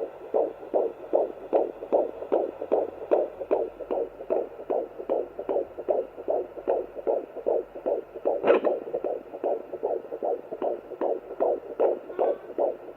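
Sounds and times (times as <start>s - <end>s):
fetal heartbeat on doppler: 0.0s - 12.9s.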